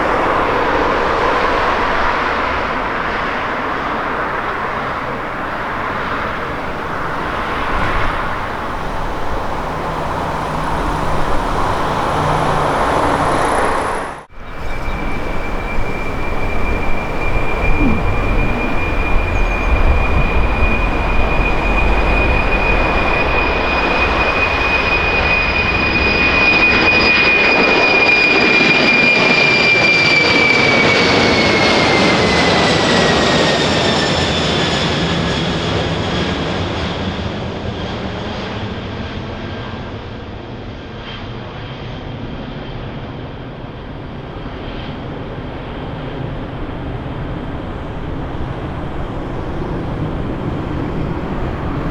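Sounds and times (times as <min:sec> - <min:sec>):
jet engines rumbling with fan whine: 0:00.0 - 0:51.9.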